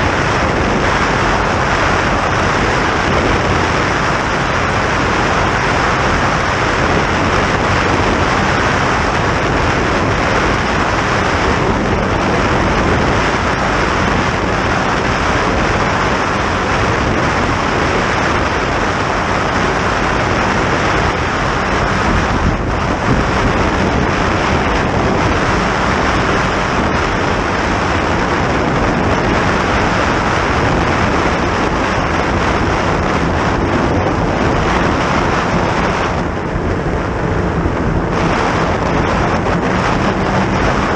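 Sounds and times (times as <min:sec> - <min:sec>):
low engine drone: 0:00.0 - 0:40.9
water rushing past boat: 0:00.0 - 0:40.9
wind rushing over microphone: 0:00.0 - 0:40.9.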